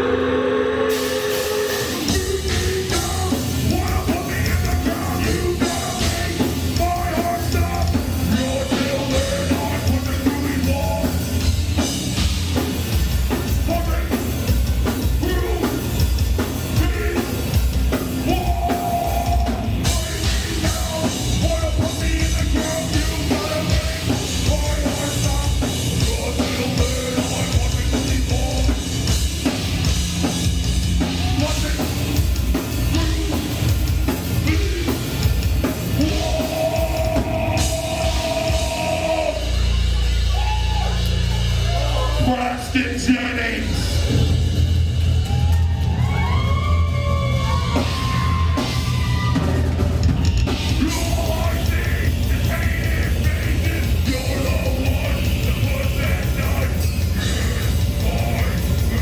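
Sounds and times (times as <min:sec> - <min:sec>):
vocalist singing: 0:00.0 - 0:12.0, 0:13.2 - 0:29.3, 0:31.0 - 0:39.9, 0:42.0 - 0:44.3, 0:50.5 - 0:59.0
drum kit: 0:00.0 - 0:59.0.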